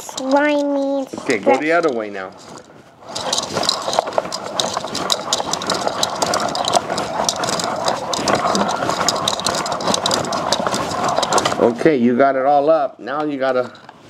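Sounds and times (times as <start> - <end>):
toy mixer whirring rattle: 0.0 - 11.8.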